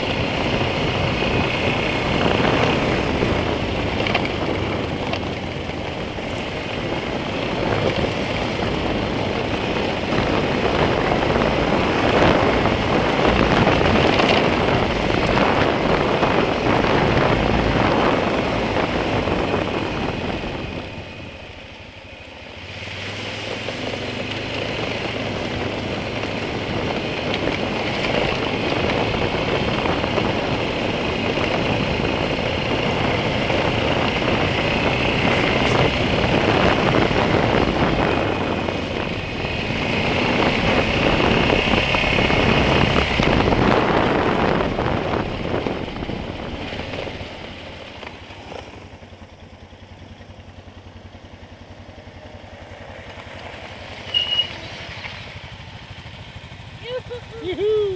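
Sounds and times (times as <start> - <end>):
quad engine running: 0.0 - 57.9
wind: 0.0 - 57.9.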